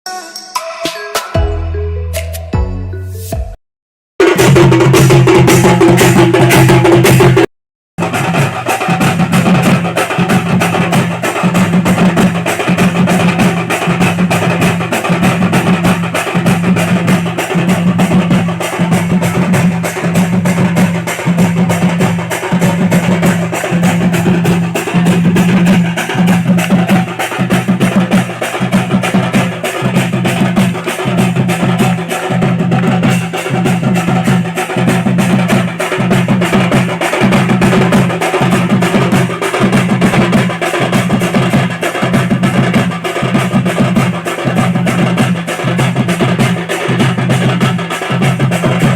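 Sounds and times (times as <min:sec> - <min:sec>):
percussion-driven music: 0:00.1 - 0:03.6, 0:04.2 - 0:48.9.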